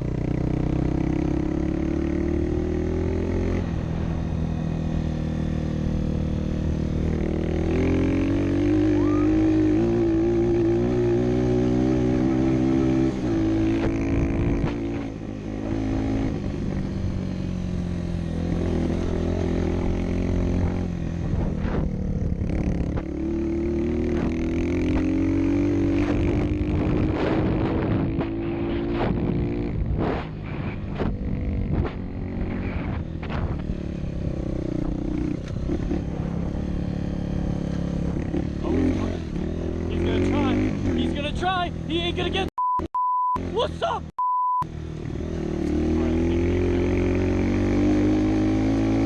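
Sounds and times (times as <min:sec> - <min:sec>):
motorcycle engine running: 0:00.0 - 0:42.5.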